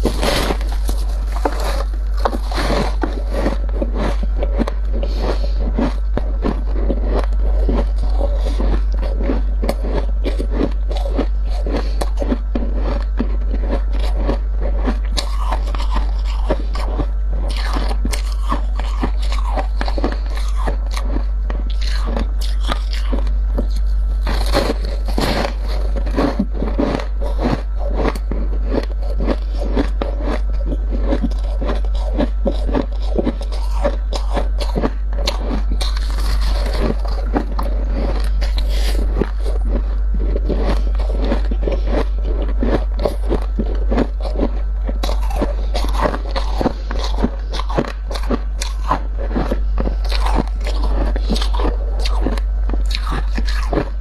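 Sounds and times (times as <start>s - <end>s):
frost crunching and scraping: 0.0s - 54.0s
steady low hum: 0.0s - 54.0s.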